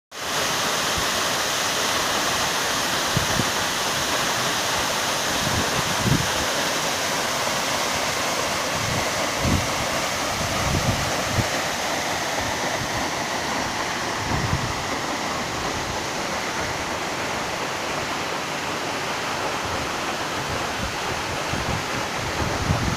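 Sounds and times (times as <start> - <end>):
waterfall roaring: 0.2 - 22.9.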